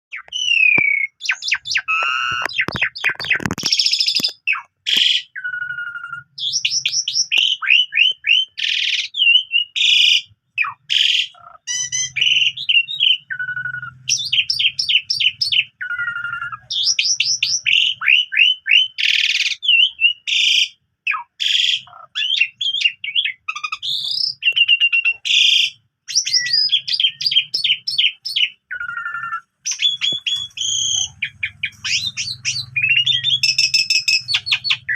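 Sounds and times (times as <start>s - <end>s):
starling singing: 0.1s - 34.9s.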